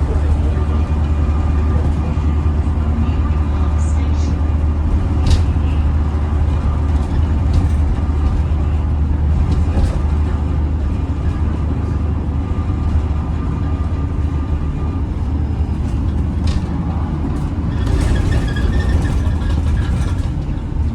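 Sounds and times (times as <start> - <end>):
bus engine rumble: 0.0 - 20.9
road noise: 0.0 - 20.9.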